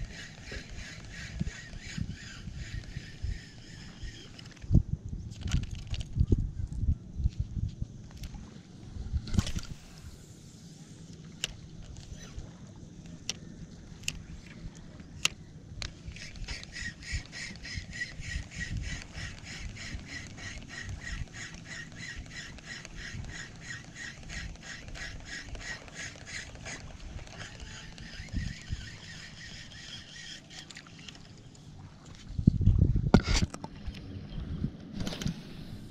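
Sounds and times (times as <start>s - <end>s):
fishing reel ticking whir: 0.0s - 6.1s, 9.2s - 32.2s
wind rumble on microphone: 0.0s - 10.9s, 11.7s - 25.7s, 26.6s - 30.2s, 31.7s - 35.9s.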